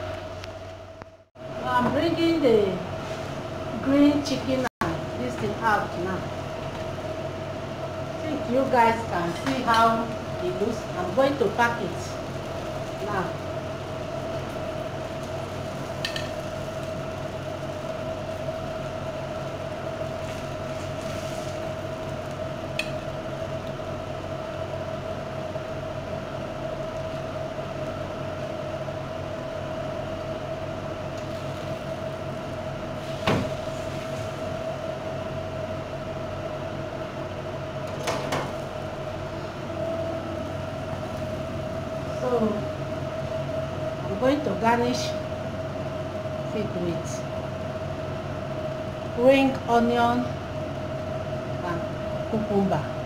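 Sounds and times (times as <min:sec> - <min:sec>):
oven humming: 0:00.0 - 0:53.0.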